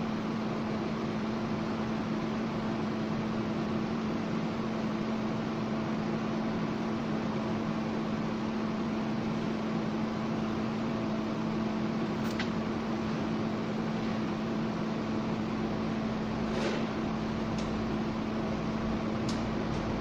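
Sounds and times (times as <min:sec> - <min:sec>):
low constant hum: 0:00.0 - 0:20.0.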